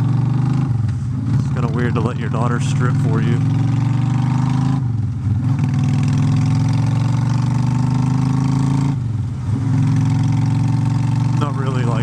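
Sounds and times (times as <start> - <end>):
motorcycle exhaust note: 0.0 - 12.0.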